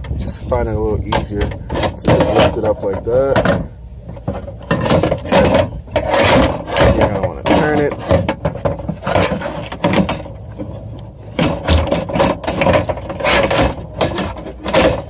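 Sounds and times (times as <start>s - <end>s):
window regulator rattling against metal: 0.0s - 15.0s.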